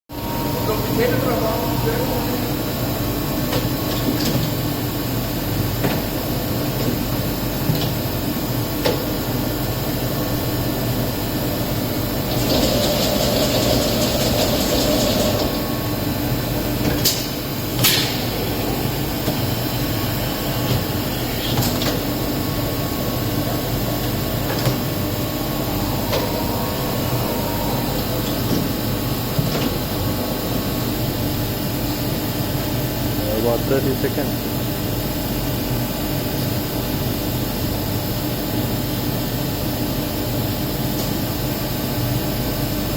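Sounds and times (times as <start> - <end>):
machine hum: 0.0 - 39.6.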